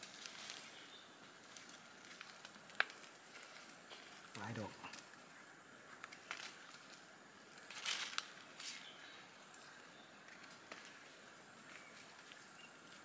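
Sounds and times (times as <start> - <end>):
dry leaves rustling and crackling: 0.0 - 5.2, 6.0 - 13.0.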